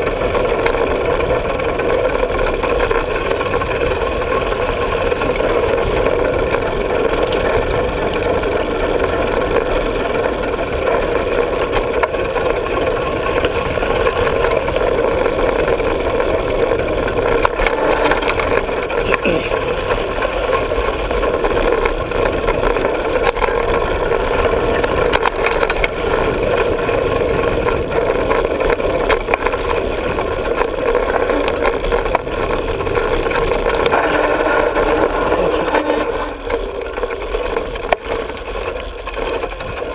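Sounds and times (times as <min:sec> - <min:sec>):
bike rattling and knocking: 0:00.0 - 0:39.9
mountain bike tyre rush: 0:00.0 - 0:39.9.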